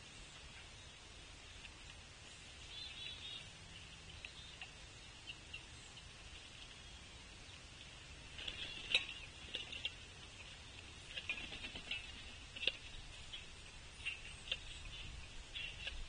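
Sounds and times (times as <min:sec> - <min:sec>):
high-pitched background hiss: 0:00.0 - 0:16.0.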